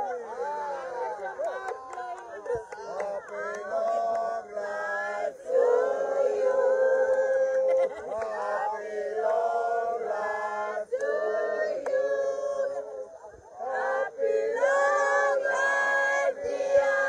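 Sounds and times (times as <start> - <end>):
group singing in unison: 2.5 - 17.0.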